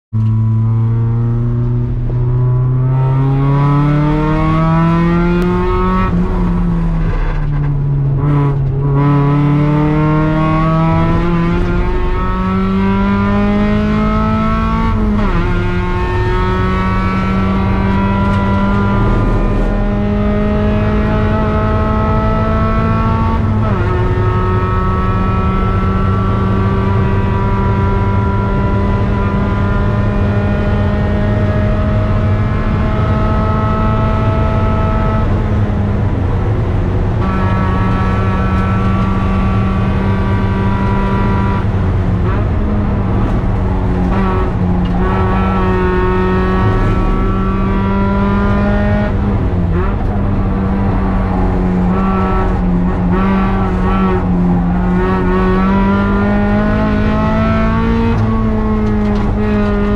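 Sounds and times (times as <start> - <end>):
car engine accelerating hard: 0.1 - 59.9.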